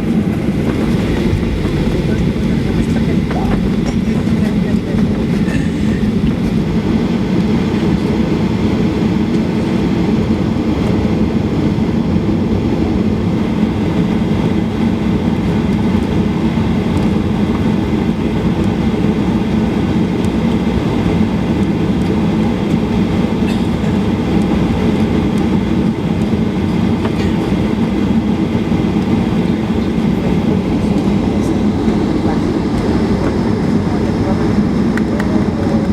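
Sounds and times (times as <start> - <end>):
airplane cabin engine rumble: 0.0 - 35.9.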